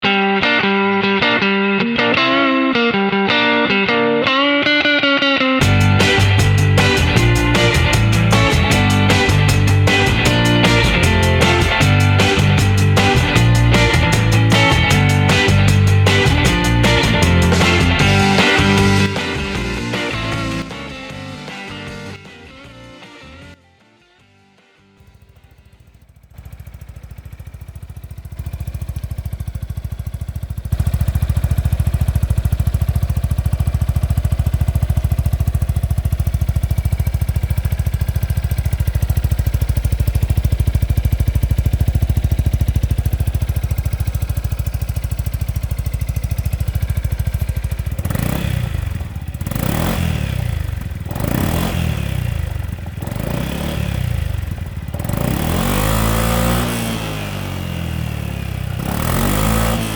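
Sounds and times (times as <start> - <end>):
scooter engine idling and revving: 5.6 - 23.0, 25.0 - 59.9.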